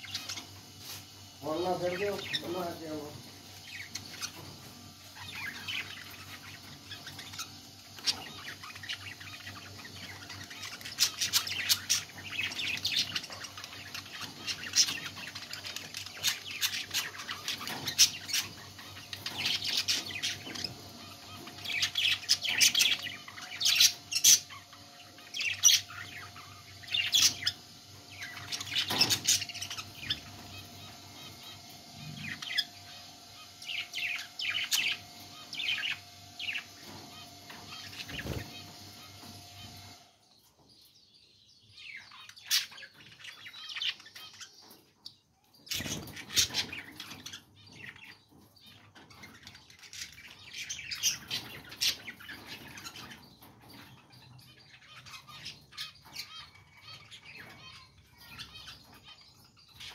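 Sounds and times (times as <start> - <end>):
budgerigars chirping: 0.0 - 40.9, 41.6 - 59.9
faint steady hum: 0.0 - 59.2.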